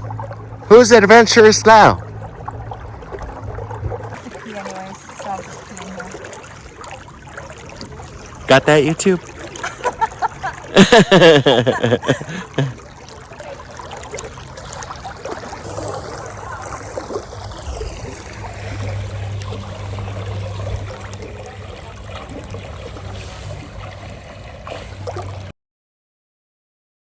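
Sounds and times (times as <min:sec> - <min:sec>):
stream trickling: 0:00.0 - 0:25.5.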